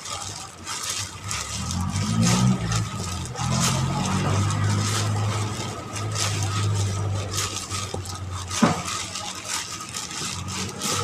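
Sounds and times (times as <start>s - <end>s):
plastic bag crinkling while kneading: 0.0s - 11.0s.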